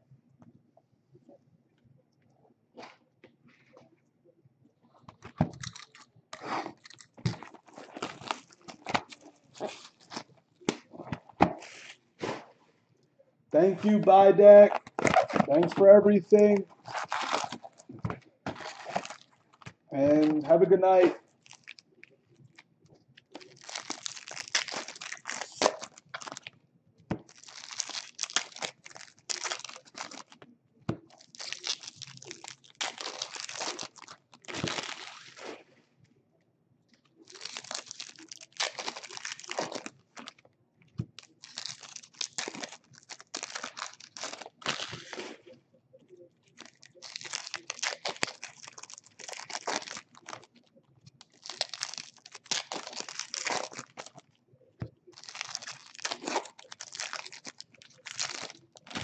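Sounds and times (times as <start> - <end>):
wrappers crinkling and tearing: 5.5 - 12.4, 13.6 - 26.5, 27.2 - 35.7, 37.0 - 40.4, 41.1 - 45.6, 46.5 - 54.4, 55.0 - 59.0.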